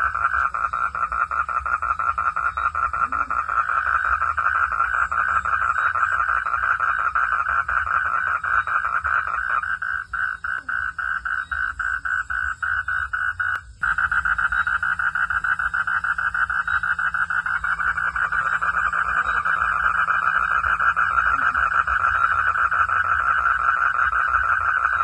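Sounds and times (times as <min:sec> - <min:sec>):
frogs calling in chorus: 0:00.0 - 0:25.0.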